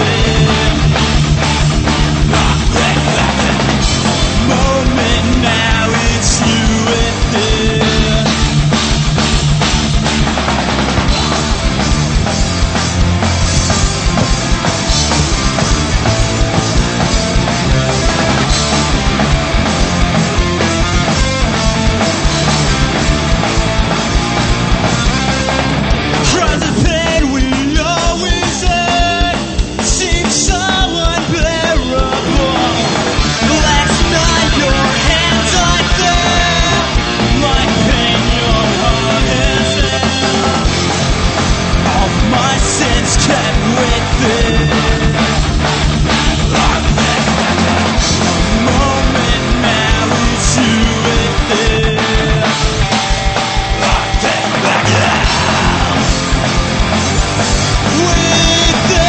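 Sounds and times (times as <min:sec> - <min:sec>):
drum kit beat: 0:00.0 - 0:59.0
rock band playing instrumental: 0:00.0 - 0:59.0.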